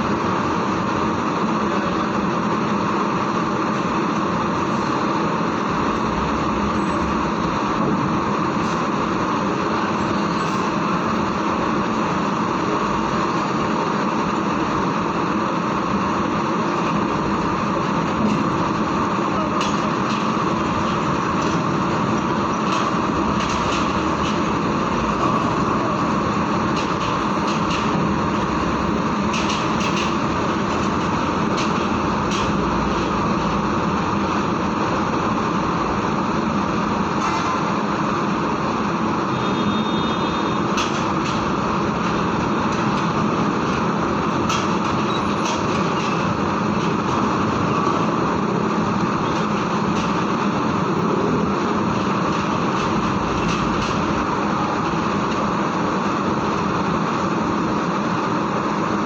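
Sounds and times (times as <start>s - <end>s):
truck diesel engines: 0.0s - 59.0s.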